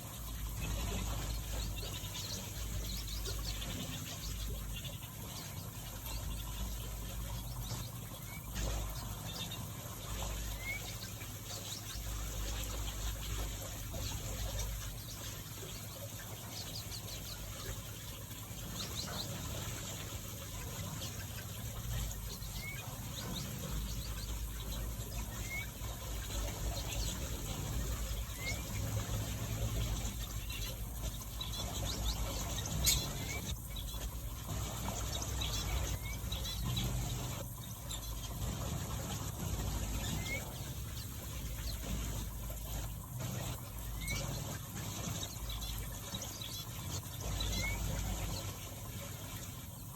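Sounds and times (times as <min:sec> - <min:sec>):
finches chirping: 0:00.0 - 0:49.9.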